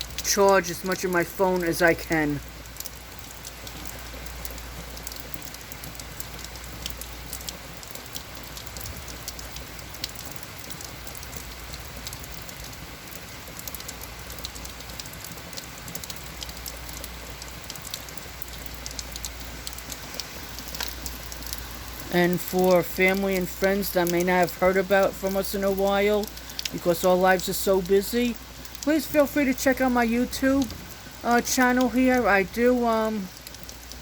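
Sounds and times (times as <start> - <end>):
heavy rain pattering: 0.0 - 34.0.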